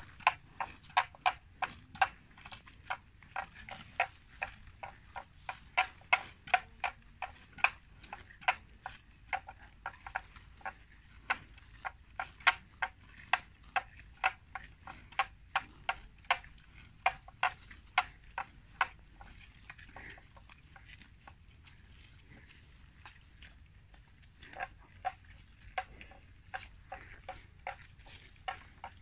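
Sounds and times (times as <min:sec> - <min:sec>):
buffalo tearing plants: 0:00.0 - 0:29.0.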